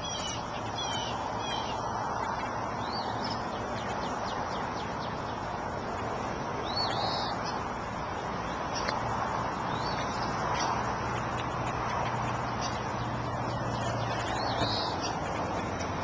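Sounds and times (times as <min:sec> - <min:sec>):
songbirds chirping: 0:00.0 - 0:16.0
steady outdoor noise: 0:00.0 - 0:16.0.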